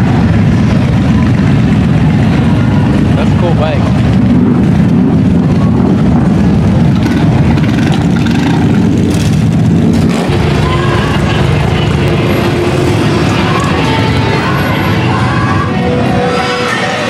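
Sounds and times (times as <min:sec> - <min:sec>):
motorcycle engines rumbling: 0:00.0 - 0:17.0.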